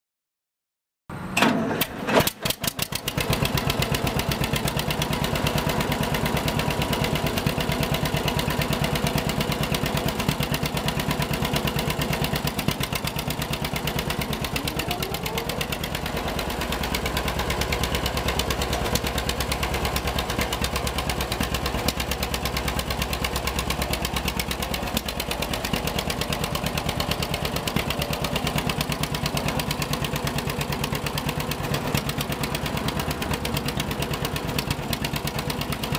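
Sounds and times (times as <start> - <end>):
tractor engine idling: 1.4 - 35.9.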